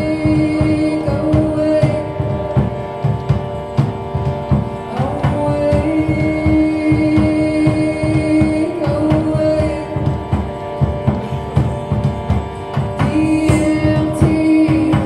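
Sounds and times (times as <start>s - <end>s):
busy hand-drum pattern: 0.0s - 15.0s
held drone chord: 0.0s - 15.0s.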